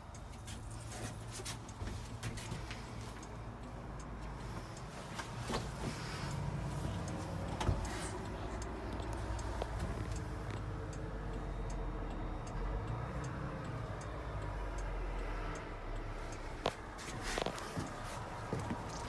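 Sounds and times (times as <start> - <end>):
faint regular ticking: 0.0 - 19.0.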